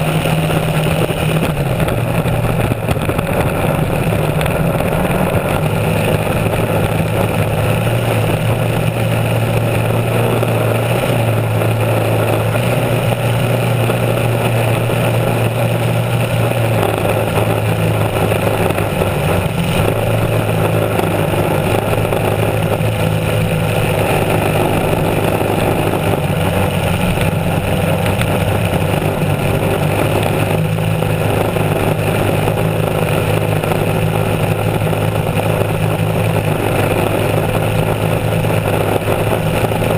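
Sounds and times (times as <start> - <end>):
boat engine running hard: 0.0 - 39.9
rush of spray and wind: 0.0 - 39.9.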